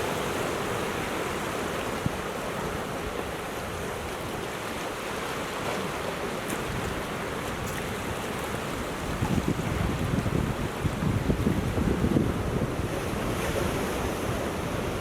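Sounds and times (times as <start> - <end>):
ocean waves on rocks: 0.0 - 15.0.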